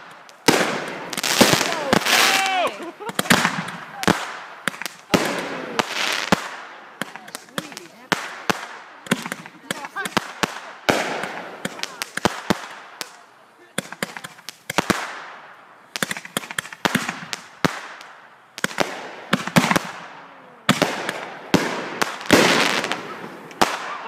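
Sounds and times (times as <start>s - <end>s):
firework crackle and hiss: 0.0s - 24.0s
fireworks sharp bangs: 0.0s - 24.0s.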